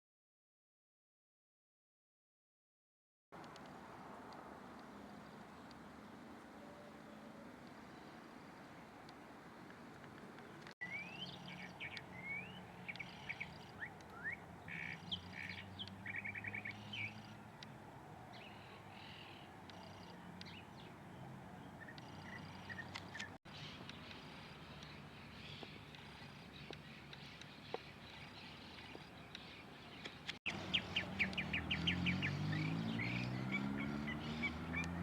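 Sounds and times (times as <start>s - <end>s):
songbirds chirping and trilling: 3.4s - 35.0s.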